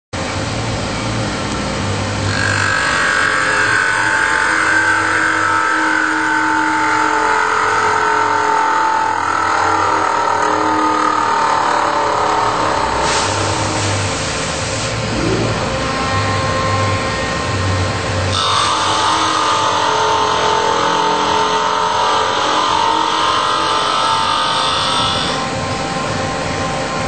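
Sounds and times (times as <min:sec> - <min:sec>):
low hum: 0:00.2 - 0:27.0
machine whine: 0:00.2 - 0:27.0.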